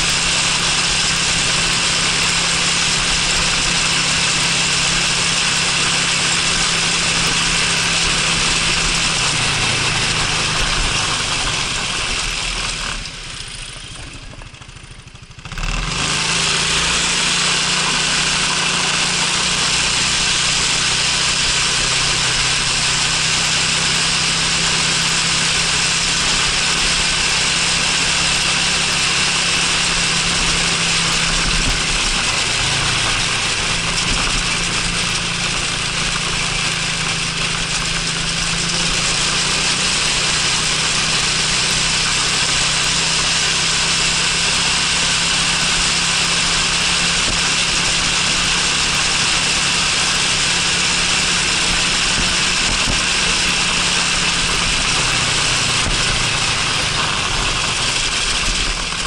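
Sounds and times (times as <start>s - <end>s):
scooter engine humming: 0.0s - 59.0s.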